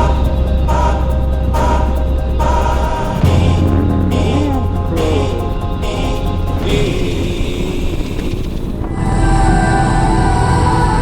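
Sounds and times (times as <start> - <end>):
gliding melody: 0.0 - 11.0
low drone: 0.0 - 11.0.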